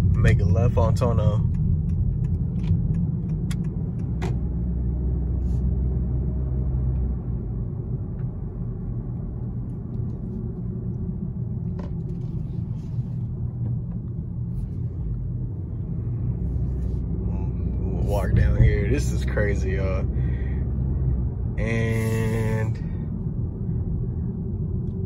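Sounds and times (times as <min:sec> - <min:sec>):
car cabin road and engine rumble: 0:00.0 - 0:25.0.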